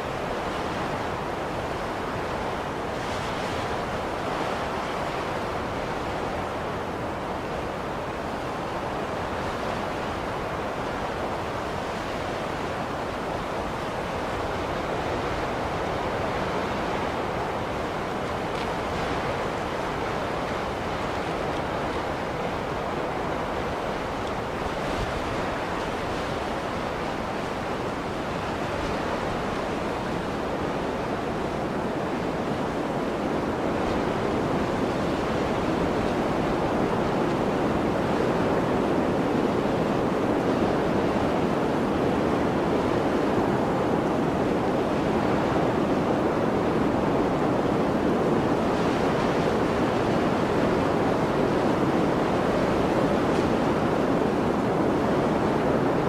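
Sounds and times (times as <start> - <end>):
blizzard wind blowing: 0.0 - 56.0.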